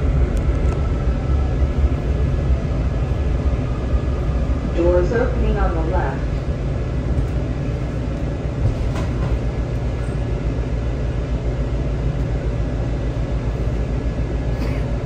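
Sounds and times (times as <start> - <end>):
metro car wheels rumbling: 0.0 - 15.0.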